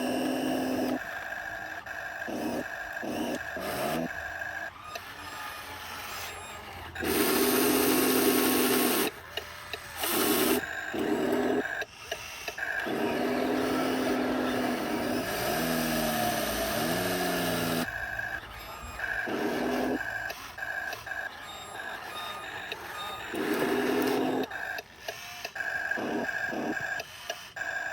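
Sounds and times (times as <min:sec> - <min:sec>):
electric motors whining: 0:00.0 - 0:27.9.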